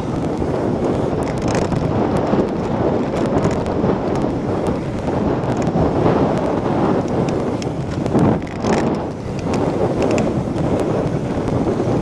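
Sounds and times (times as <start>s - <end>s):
bike clicks and rattles: 0.0s - 12.0s
tyres rumbling on rough track: 0.0s - 12.0s
wind buffeting microphone: 0.0s - 12.0s.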